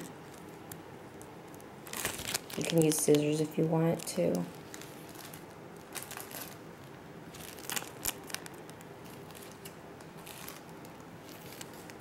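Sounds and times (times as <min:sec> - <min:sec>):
plastic bag crinkling: 0:00.0 - 0:12.0
plastic bag tearing: 0:01.5 - 0:06.7, 0:07.3 - 0:12.0.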